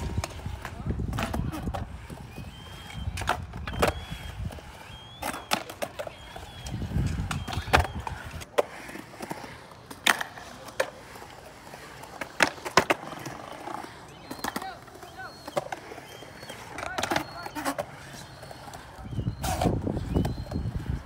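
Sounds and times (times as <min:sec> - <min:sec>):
skateboard clacks: 0:00.0 - 0:21.0
skateboard wheels rumbling on concrete: 0:00.0 - 0:21.0.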